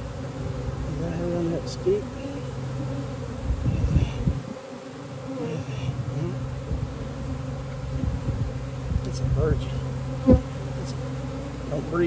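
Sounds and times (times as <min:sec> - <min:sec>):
bee swarm buzzing: 0:00.0 - 0:12.0
bees flying close past: 0:00.0 - 0:12.0
low bumps: 0:00.0 - 0:12.0.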